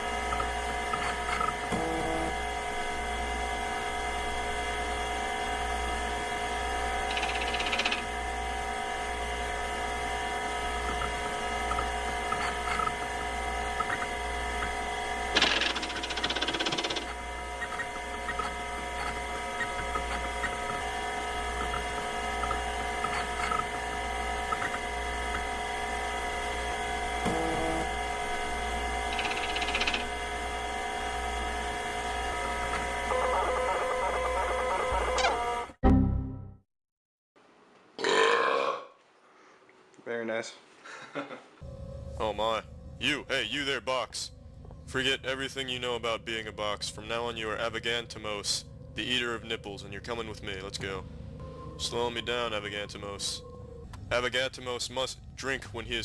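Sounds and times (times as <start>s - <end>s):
machine whine and hum: 0.0s - 35.8s, 40.9s - 56.0s.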